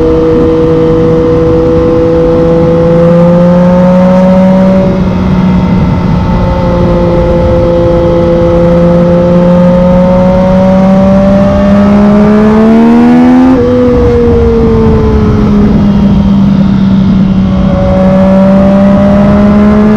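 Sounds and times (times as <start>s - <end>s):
motorcycle engine under throttle: 0.0s - 19.9s.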